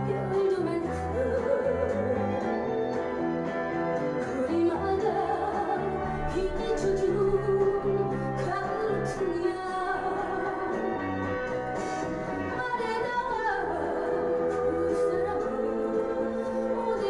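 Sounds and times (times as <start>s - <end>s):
woman singing: 0.0s - 2.8s, 4.2s - 11.1s, 11.8s - 17.0s
vinyl record playing a song: 0.0s - 17.0s.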